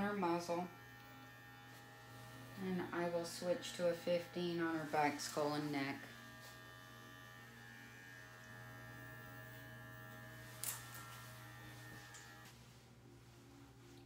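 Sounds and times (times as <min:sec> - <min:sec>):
electric clippers humming: 0:00.0 - 0:12.6.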